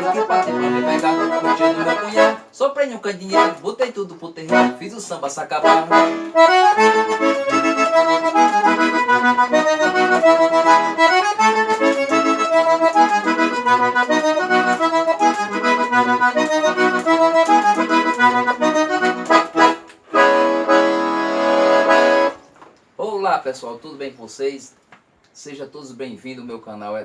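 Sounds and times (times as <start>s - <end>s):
accordion melody: 0.0s - 22.6s.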